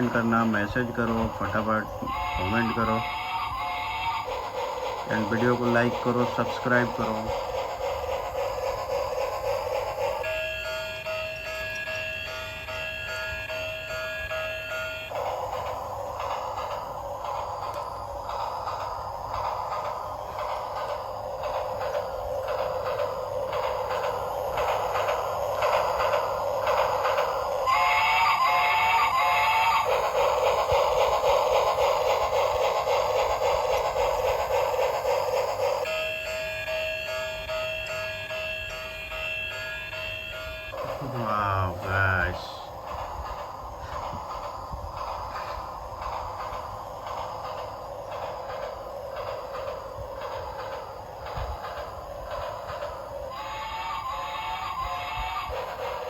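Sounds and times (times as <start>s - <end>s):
toy train rattling: 0.0s - 56.0s.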